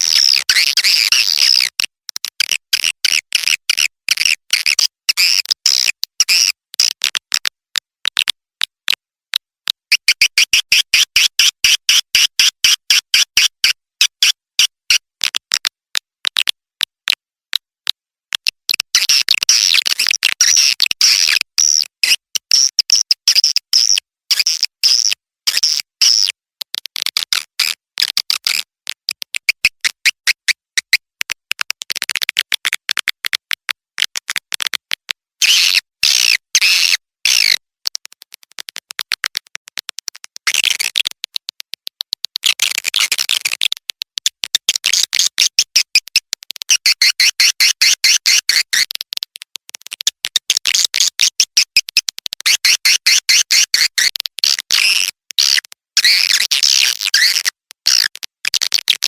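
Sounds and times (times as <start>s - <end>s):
bird call chirps and clicks: 0.0s - 59.0s.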